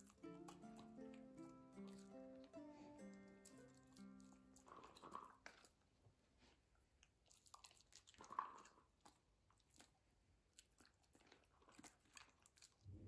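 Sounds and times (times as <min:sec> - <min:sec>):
faint chewing and crunching: 0:00.0 - 0:13.0.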